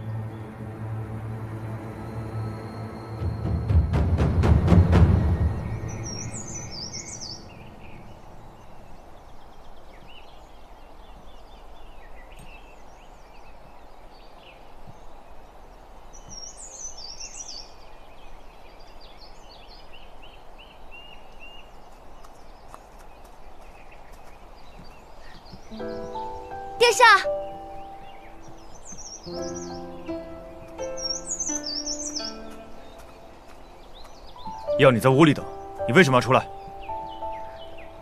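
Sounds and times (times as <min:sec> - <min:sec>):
faint background noise: 0:00.0 - 0:38.0
songbirds chirping: 0:00.0 - 0:38.0.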